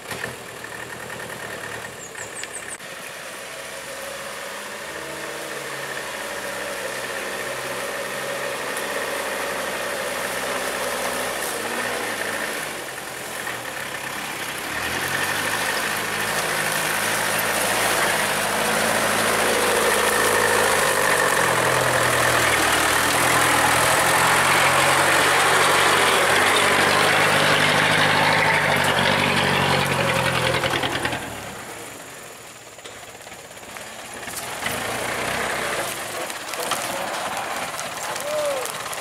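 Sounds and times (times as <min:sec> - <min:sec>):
truck diesel engine running hard: 0:00.0 - 0:39.0.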